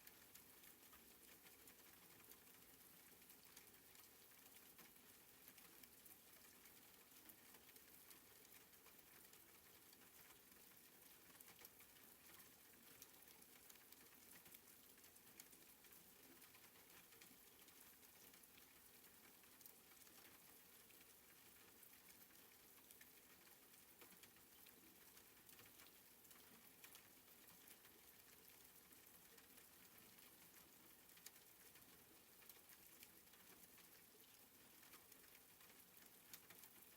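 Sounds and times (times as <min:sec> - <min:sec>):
soft rain falling: 0:00.0 - 0:36.9.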